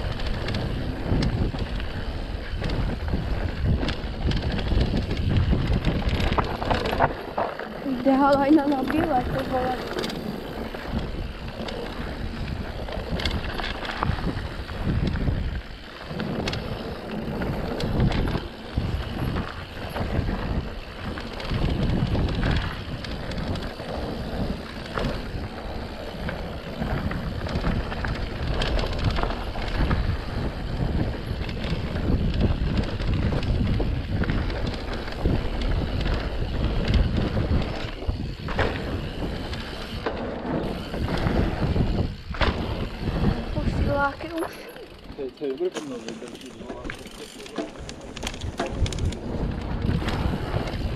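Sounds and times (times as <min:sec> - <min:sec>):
bike knocks and rattles: 0:00.0 - 0:50.9
bike tyre noise: 0:00.0 - 0:50.9
wind buffeting microphone: 0:00.0 - 0:50.9.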